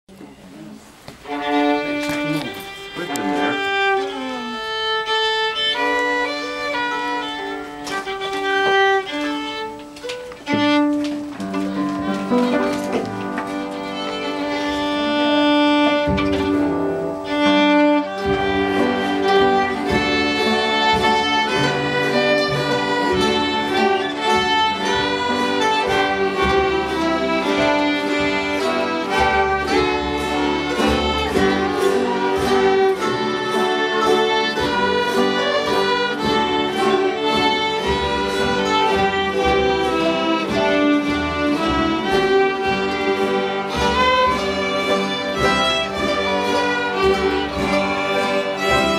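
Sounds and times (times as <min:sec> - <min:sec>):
acoustic guitar: 0:00.1 - 0:48.9
piano: 0:00.1 - 0:48.9
fiddles playing a folk tune: 0:00.2 - 0:48.9.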